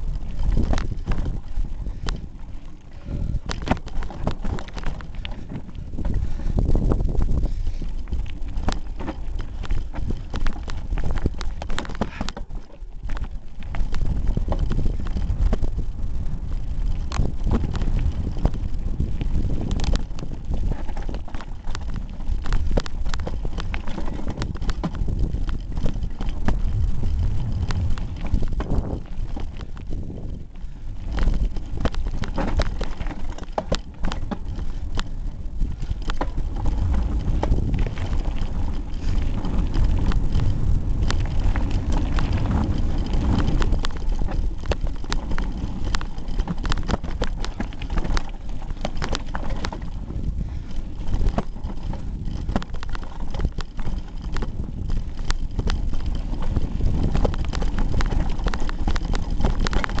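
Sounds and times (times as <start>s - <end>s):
bike rattling over rocks: 0.0s - 60.0s
wind on microphone: 0.0s - 60.0s.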